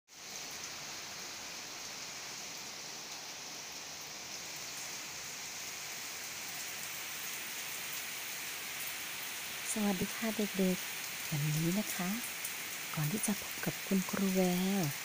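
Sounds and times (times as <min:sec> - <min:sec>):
rain falling on wet ground: 0:00.1 - 0:15.0.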